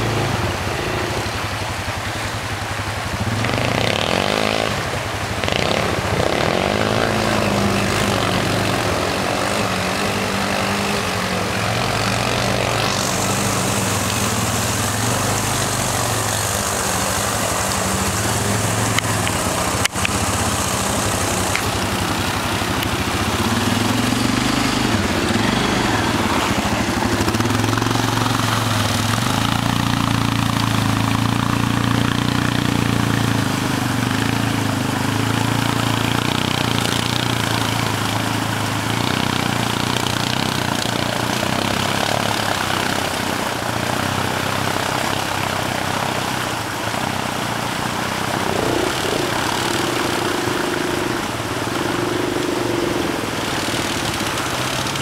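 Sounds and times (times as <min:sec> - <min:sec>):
quad bike engines running: 0:00.0 - 0:55.0
water splashing: 0:00.0 - 0:55.0.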